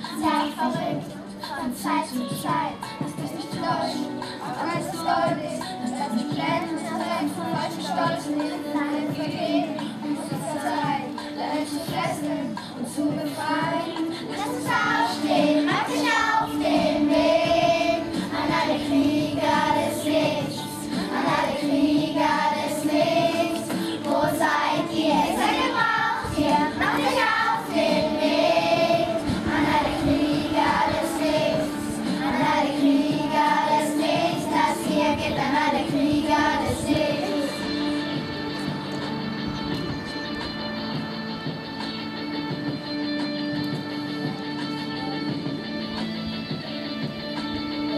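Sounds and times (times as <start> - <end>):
children singing together: 0.0 - 38.7.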